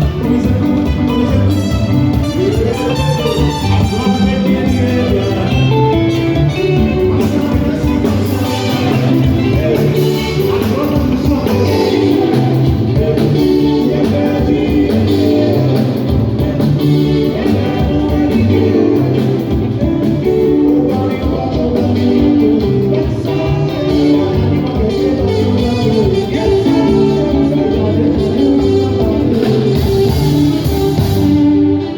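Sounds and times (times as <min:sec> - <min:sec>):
guitar music with beat: 0:00.0 - 0:31.9
person singing: 0:00.0 - 0:31.9.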